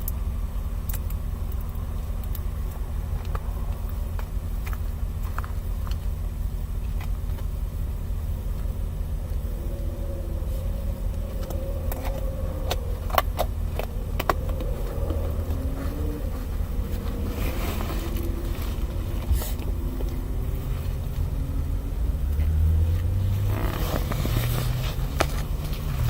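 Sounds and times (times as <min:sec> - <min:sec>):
car engine rumble in cabin: 0:00.0 - 0:26.0.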